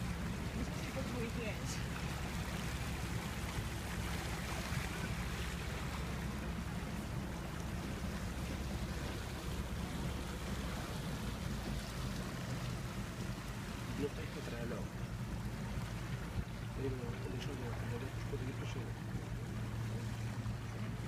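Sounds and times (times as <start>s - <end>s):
boat engine humming: 0.0s - 21.0s
water rushing along hull: 0.0s - 21.0s.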